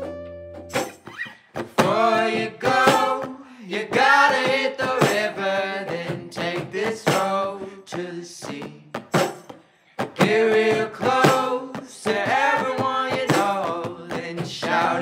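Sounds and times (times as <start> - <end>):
person singing unaccompanied: 1.6 - 9.0, 10.0 - 15.0.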